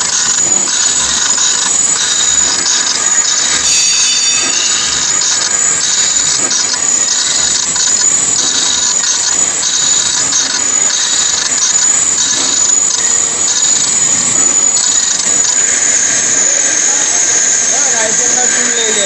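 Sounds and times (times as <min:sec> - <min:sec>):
lathe cutting metal: 0:00.0 - 0:19.0.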